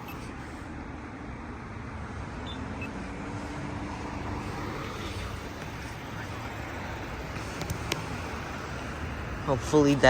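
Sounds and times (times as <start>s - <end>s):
faint steady hum: 0.0s - 10.0s
road traffic passing: 0.0s - 10.0s.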